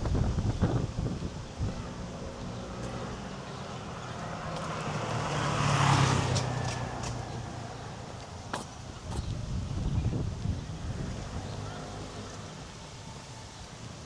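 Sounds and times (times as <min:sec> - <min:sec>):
vehicle passing by: 0:00.0 - 0:12.6.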